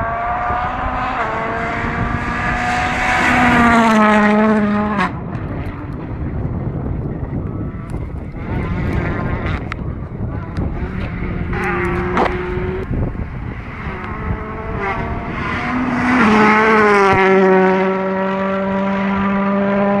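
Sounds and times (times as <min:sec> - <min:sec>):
rally car engine running: 0:00.0 - 0:20.0.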